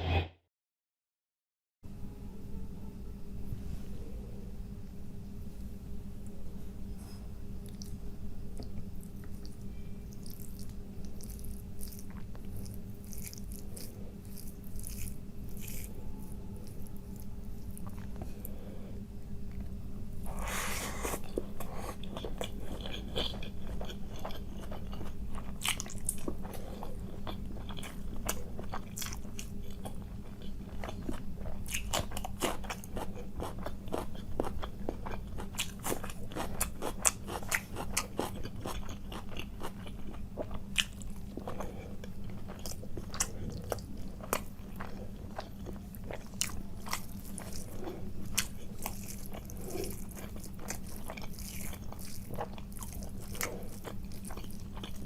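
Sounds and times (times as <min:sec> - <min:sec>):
steady low hum: 0:01.8 - 0:55.0
chewing and crunching: 0:07.0 - 0:18.6, 0:19.4 - 0:55.0.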